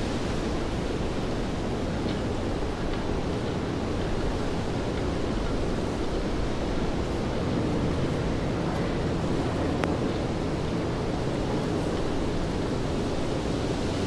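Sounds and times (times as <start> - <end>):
low city rumble: 0.0 - 14.0
rain hissing on street: 0.0 - 14.0.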